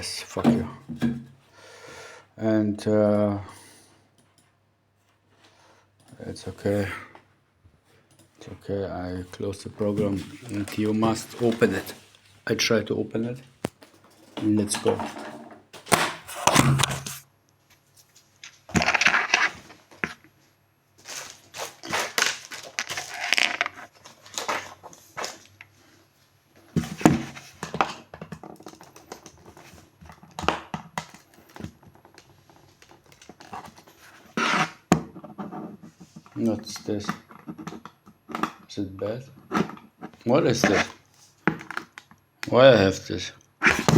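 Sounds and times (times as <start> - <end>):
objects rustling and scraping: 3.8 - 42.2, 43.6 - 43.9.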